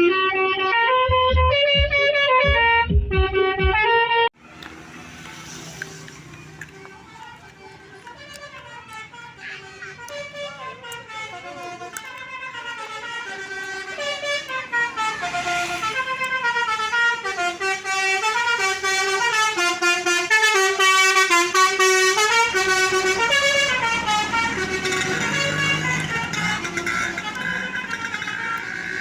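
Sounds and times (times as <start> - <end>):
bus multi-tone horn tune: 0.0 - 4.4, 5.8 - 29.0.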